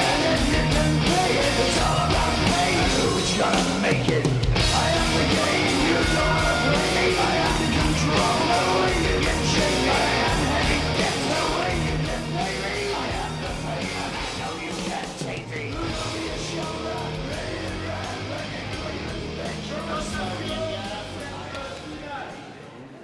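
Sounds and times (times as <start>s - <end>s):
rock music with singing over loudspeakers: 0.0s - 22.9s.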